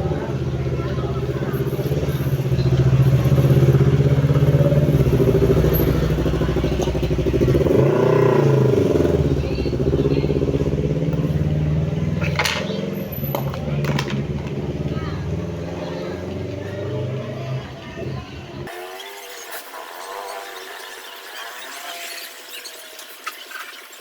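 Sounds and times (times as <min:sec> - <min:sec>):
vehicle engine revving: 0:00.0 - 0:22.6.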